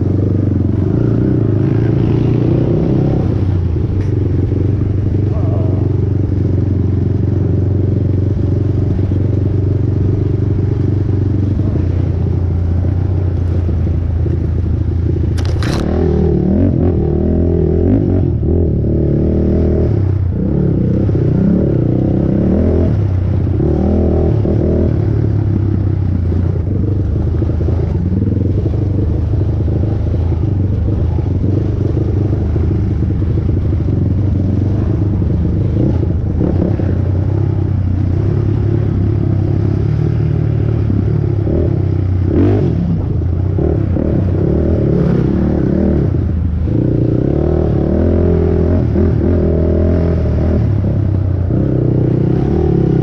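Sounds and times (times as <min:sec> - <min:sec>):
quad bike engine revving: 0:00.0 - 0:53.0.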